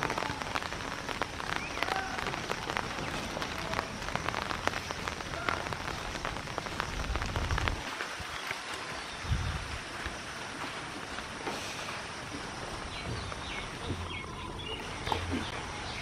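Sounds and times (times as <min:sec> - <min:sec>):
light rain pattering: 0:00.0 - 0:16.0.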